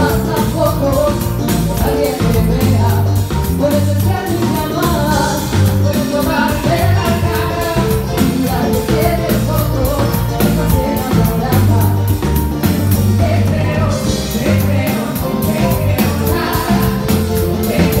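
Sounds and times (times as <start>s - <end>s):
bass: 0.0s - 18.0s
drum kit beat: 0.0s - 18.0s
keyboards: 0.0s - 18.0s
person singing: 0.0s - 18.0s.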